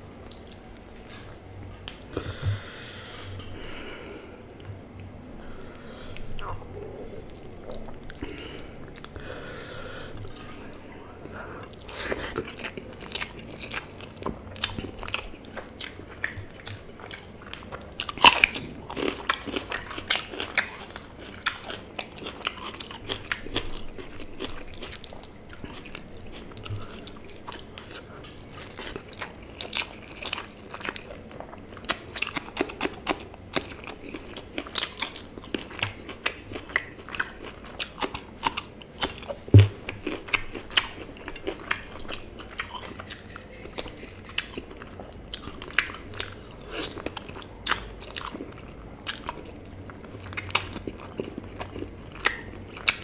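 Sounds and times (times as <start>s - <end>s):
man chewing food: 0.0s - 53.0s.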